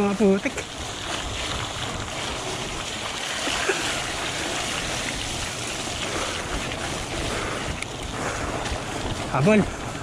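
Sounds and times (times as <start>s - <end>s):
bike tyres splashing through mud: 0.0s - 10.0s.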